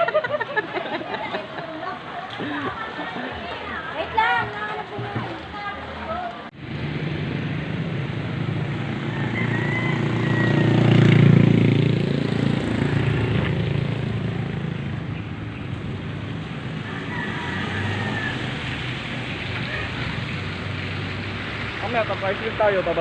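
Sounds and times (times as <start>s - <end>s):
vehicle engine humming: 1.4s - 23.0s.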